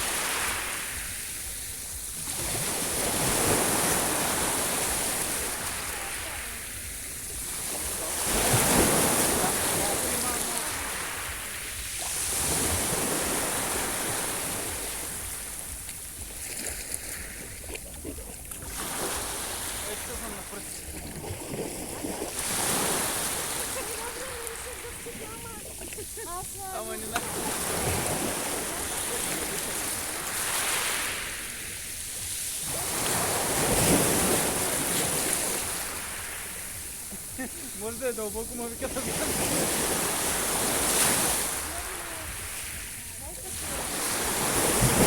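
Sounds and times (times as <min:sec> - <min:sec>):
sea waves washing onto shore: 0:00.0 - 0:45.0.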